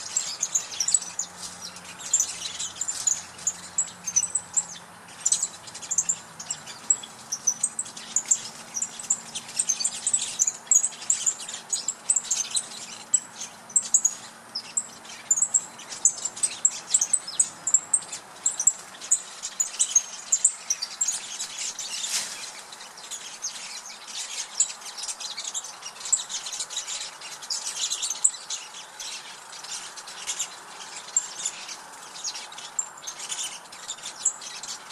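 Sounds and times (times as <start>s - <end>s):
small birds chirping and twittering: 0.0s - 34.9s.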